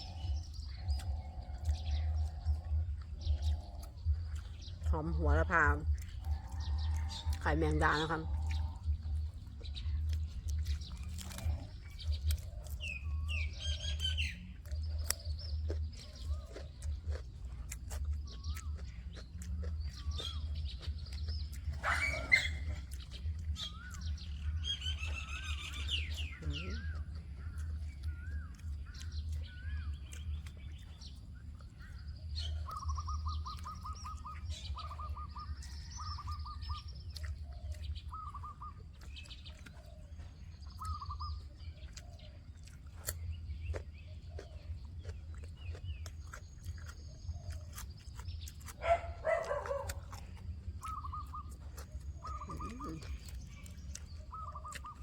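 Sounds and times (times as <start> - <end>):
small birds chirping: 0.0 - 55.0
steady low rumble: 0.0 - 55.0.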